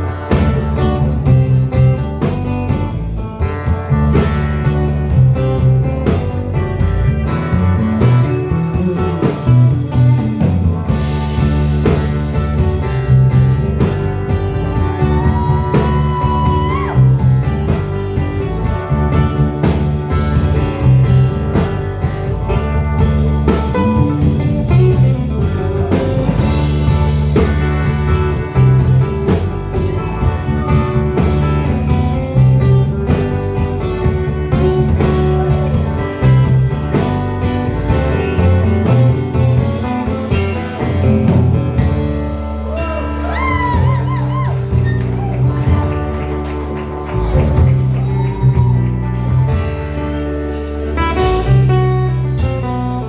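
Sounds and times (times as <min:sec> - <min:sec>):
drums on a steady beat: 0:00.0 - 0:42.5, 0:43.2 - 0:49.8
blues-rock band playing: 0:00.0 - 0:53.0
electric guitar: 0:00.0 - 0:53.0.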